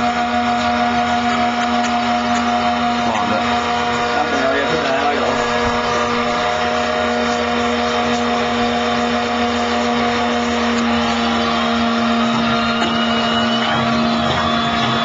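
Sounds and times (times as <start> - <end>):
electric motor whirring: 0.0 - 15.0.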